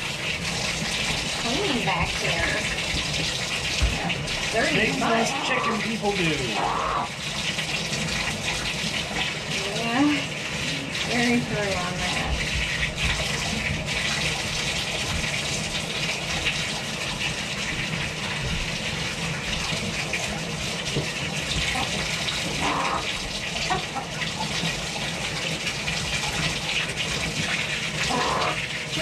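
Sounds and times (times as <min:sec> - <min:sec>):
tap water pouring and splashing: 0:00.0 - 0:29.0.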